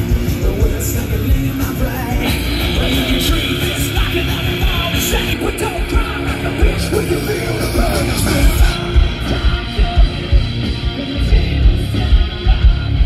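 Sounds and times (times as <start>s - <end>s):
bass guitar: 0.0s - 13.0s
electric guitars: 0.0s - 13.0s.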